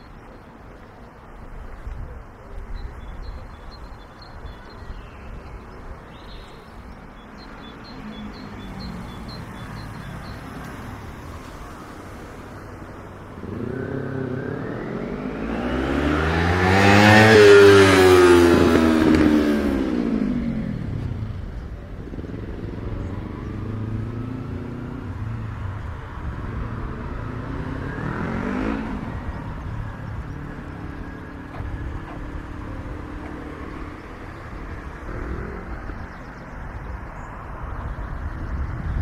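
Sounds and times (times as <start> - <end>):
background traffic: 0.0 - 39.0
vehicles passing: 0.0 - 39.0.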